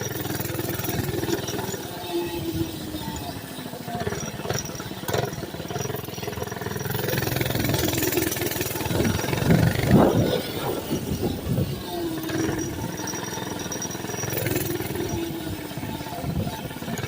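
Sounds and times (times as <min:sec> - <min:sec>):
small engine revving: 0:00.0 - 0:17.0.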